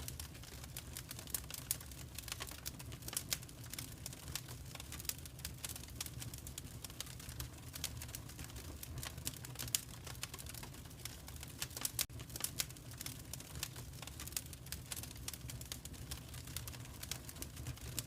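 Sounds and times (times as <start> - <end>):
low steady fire rumble: 0.0 - 18.0
wood fire crackling: 0.0 - 18.0.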